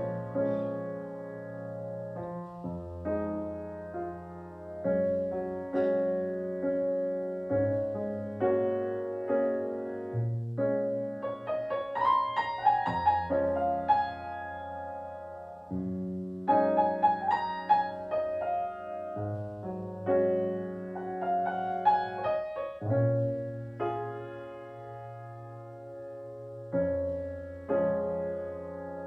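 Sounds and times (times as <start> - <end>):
keyboard chords: 0.0 - 29.0.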